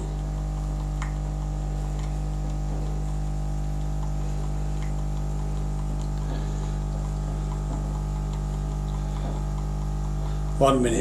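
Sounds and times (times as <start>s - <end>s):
faint ticks: 0.0s - 10.6s
coffee machine pump humming: 0.0s - 11.0s.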